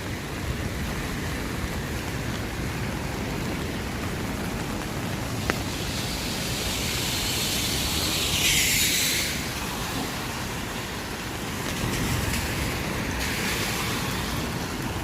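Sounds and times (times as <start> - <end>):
low rumble of city traffic: 0.0 - 15.0
rain hiss: 0.0 - 15.0
tyres hissing on wet road: 0.0 - 15.0.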